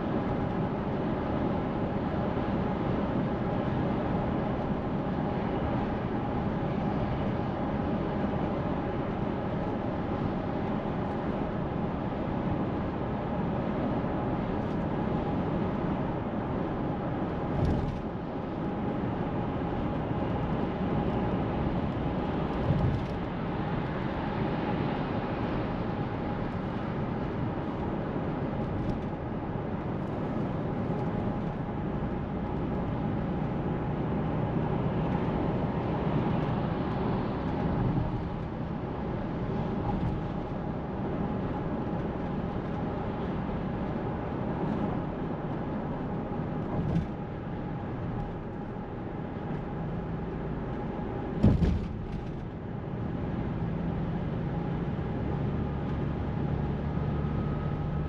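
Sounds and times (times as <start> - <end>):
road and tyre noise: 0.0 - 58.0.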